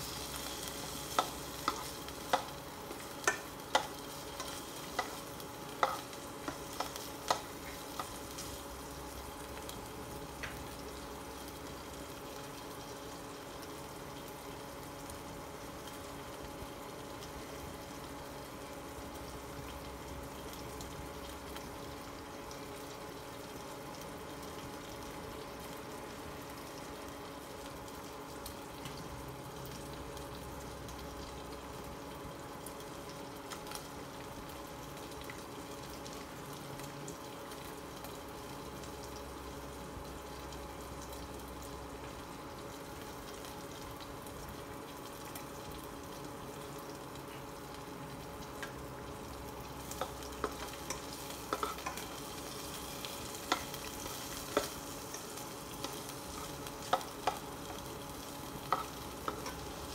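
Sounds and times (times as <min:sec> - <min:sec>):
meat sizzling in oil: 0:00.0 - 0:59.9.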